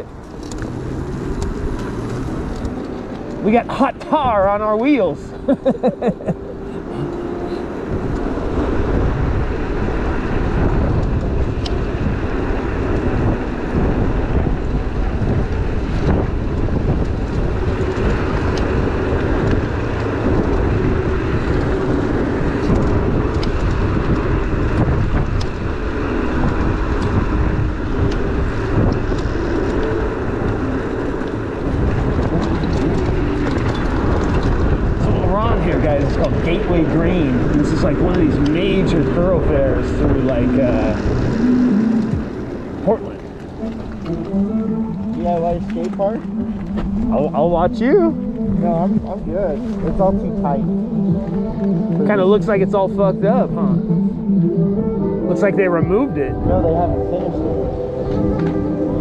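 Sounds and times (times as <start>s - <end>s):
road noise: 0.0s - 59.0s
wind rush on microphone: 0.0s - 59.0s.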